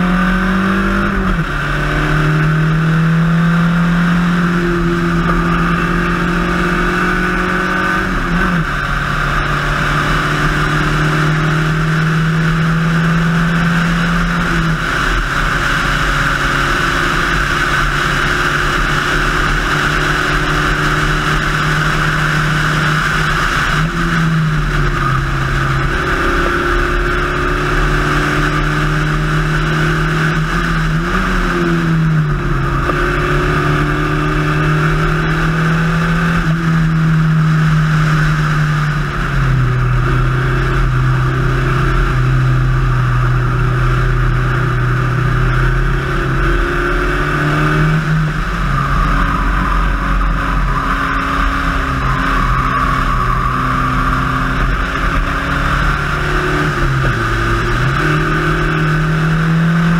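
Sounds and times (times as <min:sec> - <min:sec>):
race car engine running hard: 0:00.0 - 0:59.9
steady rushing noise: 0:00.0 - 0:59.9.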